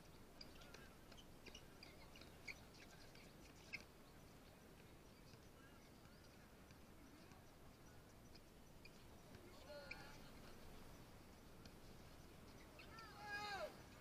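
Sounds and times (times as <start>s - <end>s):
faint high chirps: 0.0s - 14.0s.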